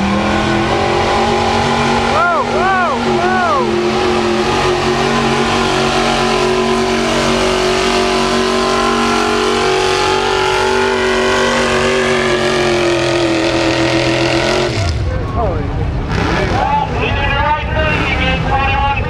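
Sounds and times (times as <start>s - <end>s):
truck engine running at high revs: 0.0s - 19.0s.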